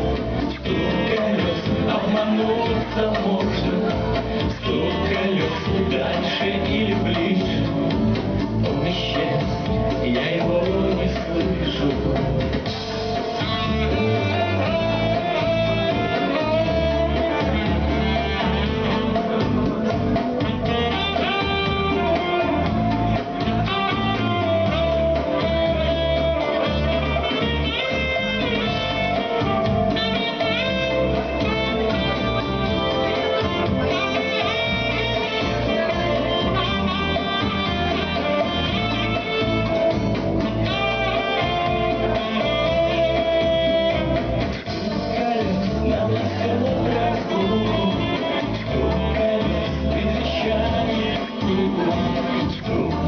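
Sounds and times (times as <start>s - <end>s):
guitar melody with sliding notes: 0.0s - 53.0s
steady bass line: 0.0s - 53.0s.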